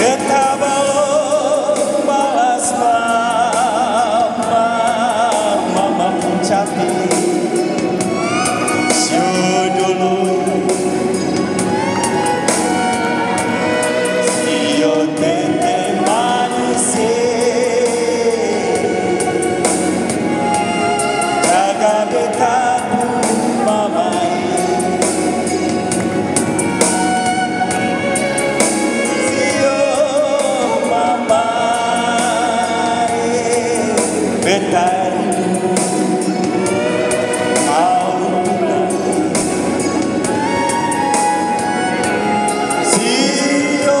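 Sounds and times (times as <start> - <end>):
backing music with steady beat: 0.0 - 44.0
man and woman singing duet: 0.0 - 44.0.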